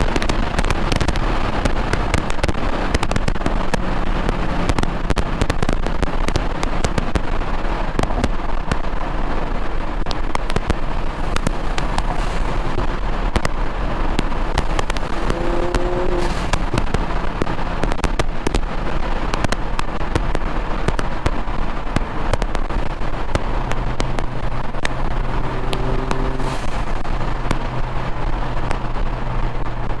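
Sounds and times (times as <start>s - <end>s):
car engine at speed: 0.0s - 30.0s
exhaust cracks and pops: 0.0s - 30.0s.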